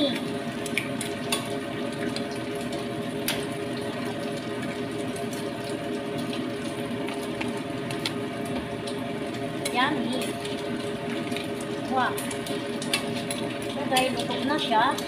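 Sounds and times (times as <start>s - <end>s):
broth boiling and bubbling: 0.0s - 15.0s.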